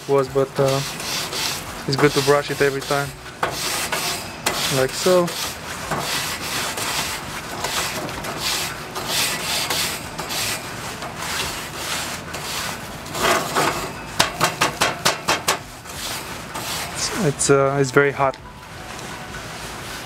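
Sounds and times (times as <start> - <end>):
grill brush scrubbing a grate: 0.0 - 18.1.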